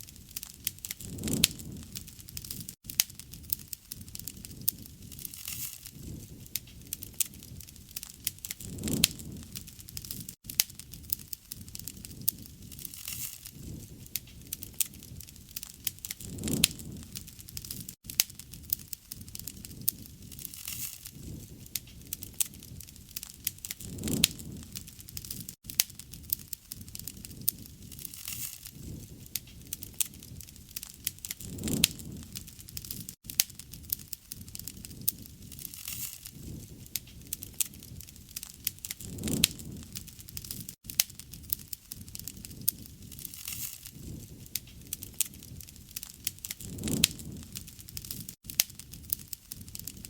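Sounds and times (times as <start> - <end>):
low rush of flame: 0.0 - 50.0
pops of burning wood: 0.0 - 50.0.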